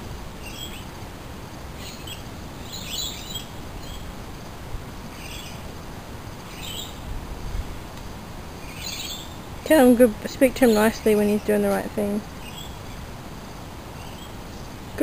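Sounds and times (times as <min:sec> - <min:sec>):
low outdoor hum: 0:00.0 - 0:15.0
small birds chirping: 0:00.4 - 0:01.0, 0:01.7 - 0:15.0.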